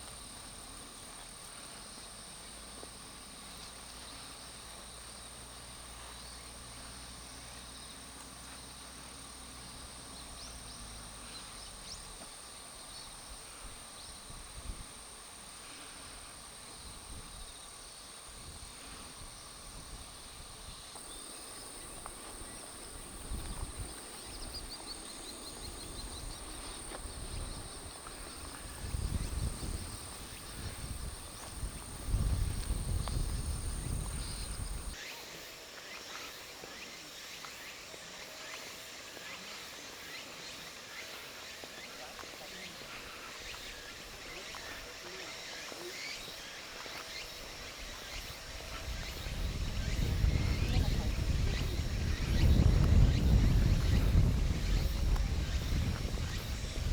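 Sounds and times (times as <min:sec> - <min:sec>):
insects droning: 0:00.0 - 0:56.9
rapid insect chirps: 0:00.0 - 0:56.9.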